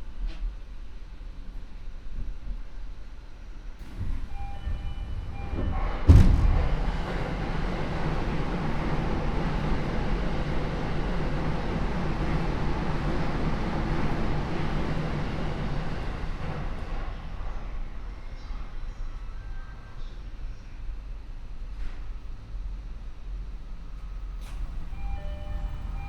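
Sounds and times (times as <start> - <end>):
train interior rushing hum: 0.0 - 26.0.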